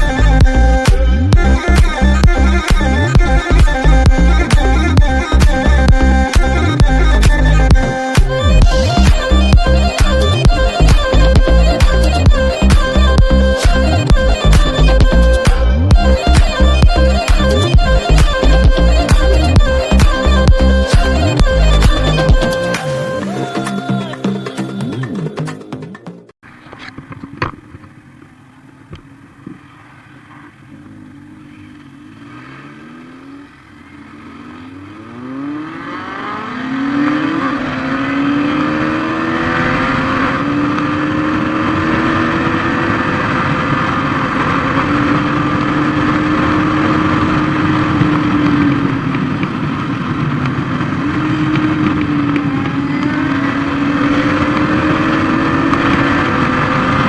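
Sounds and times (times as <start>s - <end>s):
motorcycle engine accelerating: 0.0s - 23.2s, 26.5s - 57.0s.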